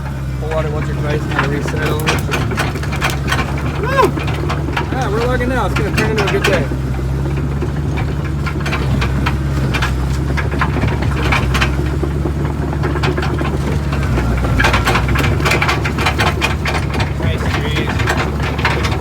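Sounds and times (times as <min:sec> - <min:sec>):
diesel engine running: 0:00.0 - 0:19.0
metal clanks and knocks: 0:00.0 - 0:19.0.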